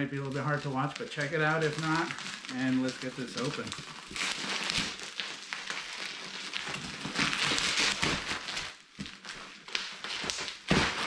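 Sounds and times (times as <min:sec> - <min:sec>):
cardboard box being torn by hand: 0:01.3 - 0:11.0.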